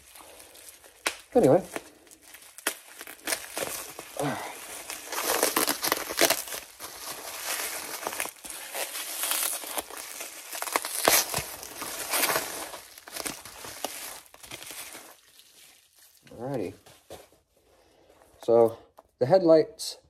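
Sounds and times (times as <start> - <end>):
bubble wrap crinkling: 0.0 - 17.6.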